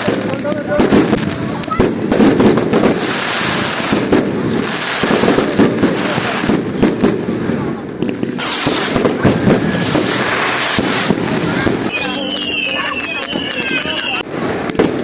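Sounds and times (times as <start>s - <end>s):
fireworks banging and crackling: 0.0s - 15.0s
fireworks fizzing crackle: 0.0s - 15.0s.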